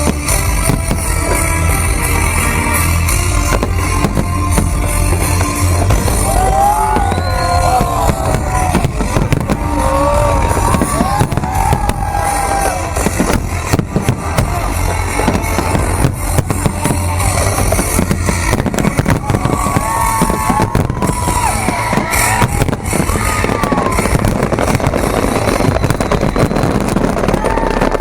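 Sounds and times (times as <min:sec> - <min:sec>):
fireworks bangs and crackles: 0:00.0 - 0:28.0
loud music playing: 0:00.0 - 0:28.0.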